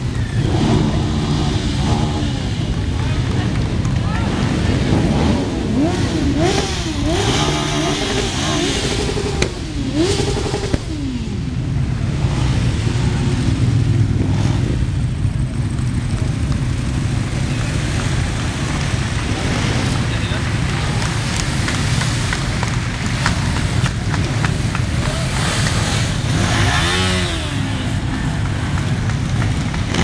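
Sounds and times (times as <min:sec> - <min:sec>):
motorcycle engines revving: 0:00.0 - 0:30.0
motorcycle engines rumbling: 0:00.0 - 0:30.0.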